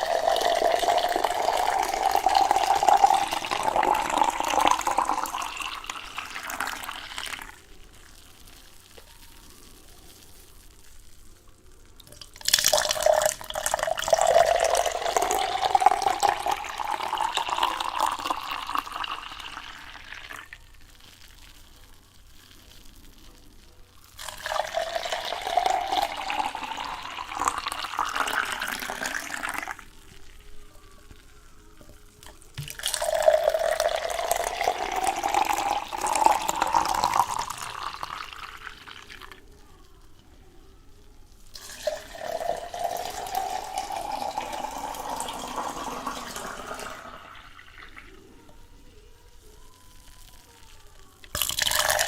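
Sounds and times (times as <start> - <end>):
water pouring into container: 0.0 - 11.4, 12.0 - 23.2, 24.0 - 39.6, 41.3 - 48.5, 50.0 - 52.0.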